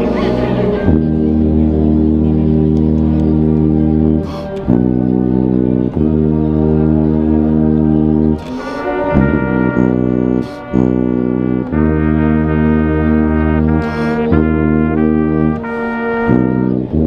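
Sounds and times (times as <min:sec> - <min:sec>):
marching band brass playing: 0:00.0 - 0:17.0
tuba holding low notes: 0:00.0 - 0:17.0.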